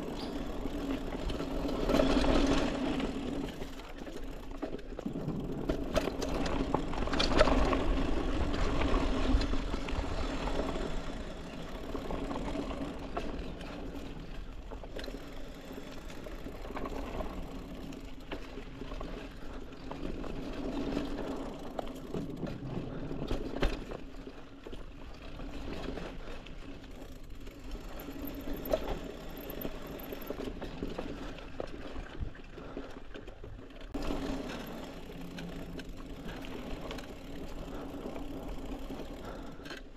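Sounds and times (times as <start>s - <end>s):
bike rattling over bumps: 0.0s - 39.9s
bike tyre and drivetrain noise: 0.0s - 39.9s.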